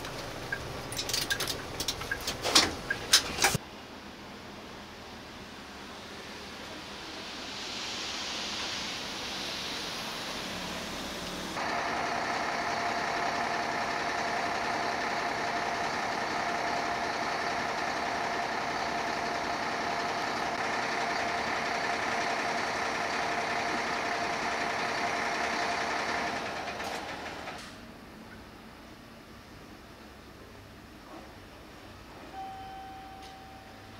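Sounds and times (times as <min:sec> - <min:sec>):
bus engine hum with whine: 0:00.0 - 0:33.9.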